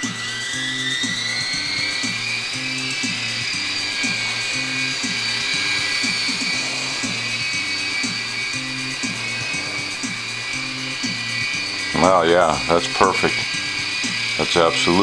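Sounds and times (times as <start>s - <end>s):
background music with beat: 0.0s - 15.0s
toy helicopter motors whining: 0.0s - 15.0s.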